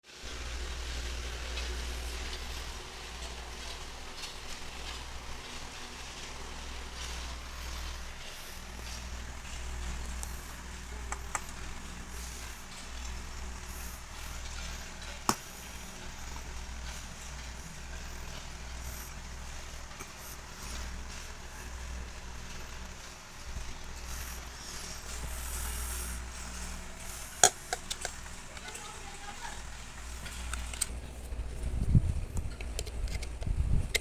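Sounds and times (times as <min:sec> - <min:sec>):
ceiling fan rushing air: 0:00.0 - 0:34.0.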